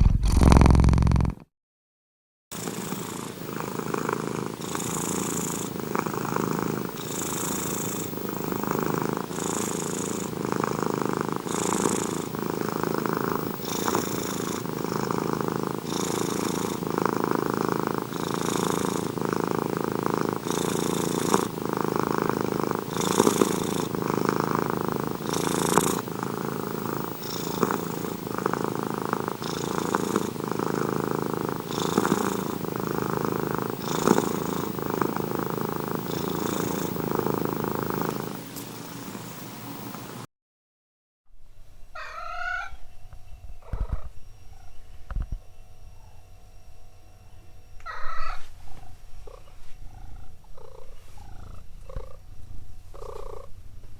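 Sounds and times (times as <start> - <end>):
cat purring: 0.0 - 1.5, 2.6 - 38.8, 41.9 - 46.2, 47.8 - 53.9.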